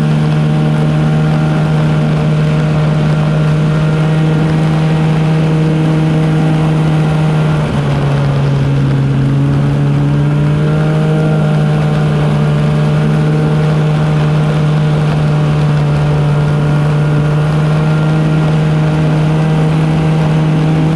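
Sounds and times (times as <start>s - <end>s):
snowmobile engine running: 0.0s - 20.9s.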